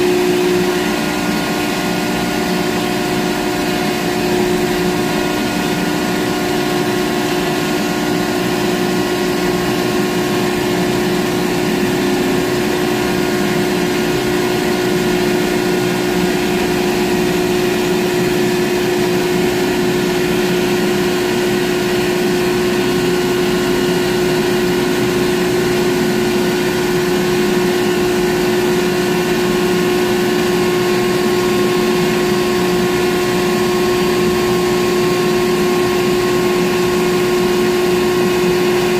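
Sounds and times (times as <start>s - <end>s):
crane machinery humming: 0.0s - 38.9s.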